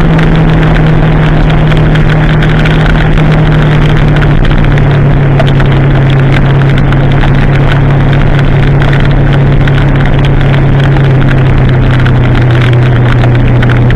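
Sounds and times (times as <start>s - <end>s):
motorcycle engine droning: 0.0s - 13.9s
wind and rain on microphone: 0.0s - 13.9s.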